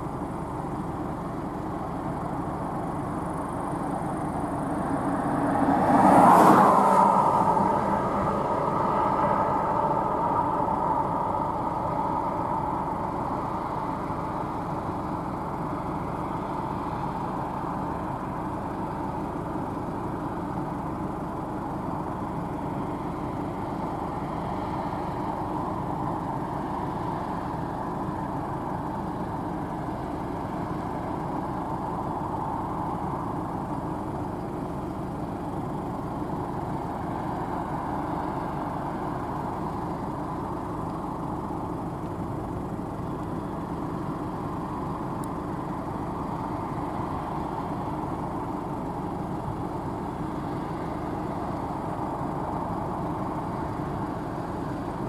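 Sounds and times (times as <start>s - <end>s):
combine harvester engine and machinery: 0.0s - 55.0s.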